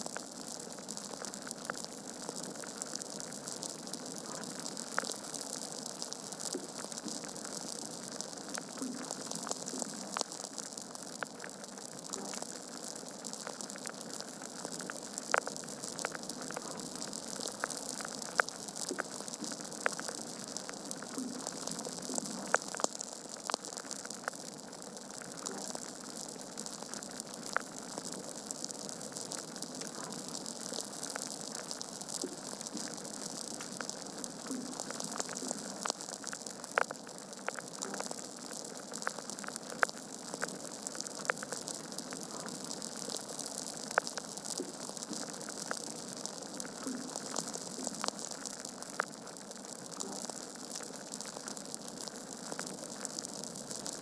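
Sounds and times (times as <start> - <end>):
log fire crackling: 0.1 - 54.0.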